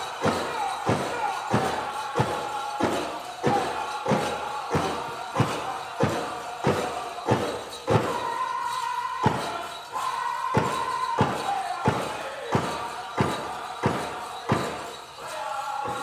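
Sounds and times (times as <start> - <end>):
big drum steady beat: 0.0 - 16.0
high-pitched group singing: 0.0 - 16.0.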